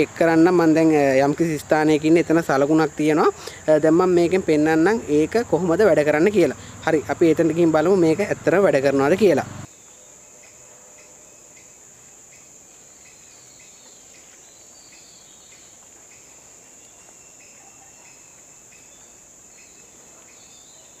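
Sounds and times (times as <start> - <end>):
insects buzzing: 0.0 - 21.0
short insect chirps: 0.4 - 21.0.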